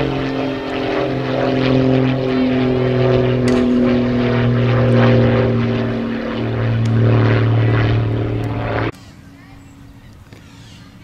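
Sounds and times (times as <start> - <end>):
loud engine drone: 0.0 - 9.3.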